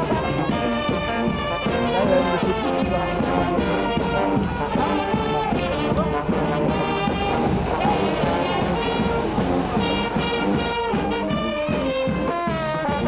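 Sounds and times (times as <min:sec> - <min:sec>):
brass band playing lively tune: 0:00.0 - 0:13.0
drums and cymbals beating: 0:00.0 - 0:13.0
saxophones: 0:00.0 - 0:13.0
trumpets: 0:00.0 - 0:13.0
sousaphones: 0:00.1 - 0:12.3.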